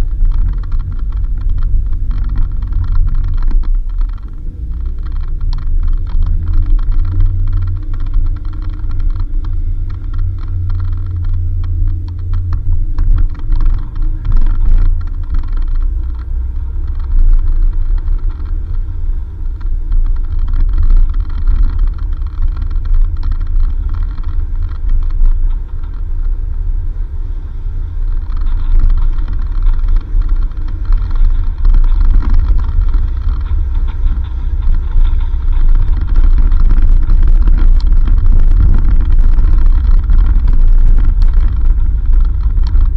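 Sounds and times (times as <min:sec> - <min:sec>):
knocks and rattles: 0:00.0 - 0:42.9
vehicle engine and road rumble: 0:00.0 - 0:42.9.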